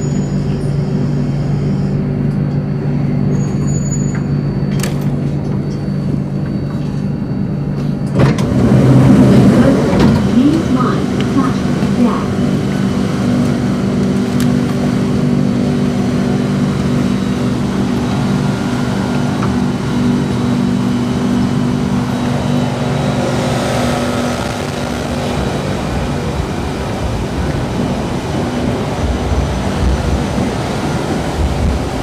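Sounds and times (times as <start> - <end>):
electric train hum: 0.0 - 32.0.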